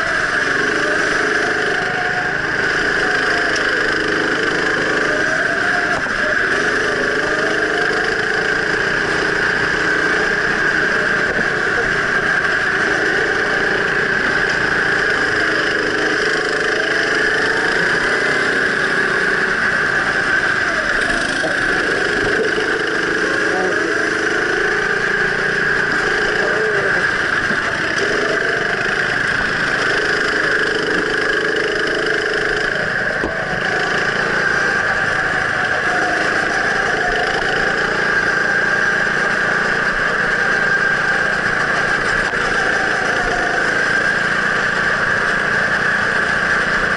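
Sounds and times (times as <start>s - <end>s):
go-kart engine revving: 0.0s - 46.9s.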